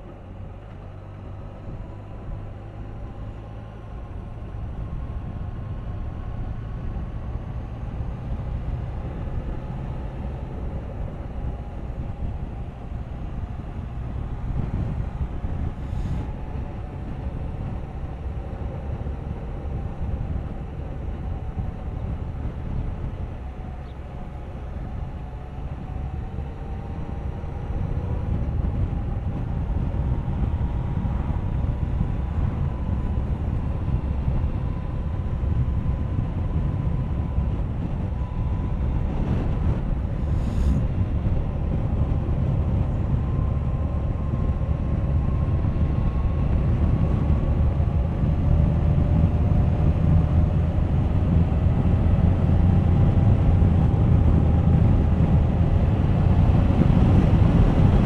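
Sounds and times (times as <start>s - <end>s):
wind and tyre noise: 0.0s - 58.0s.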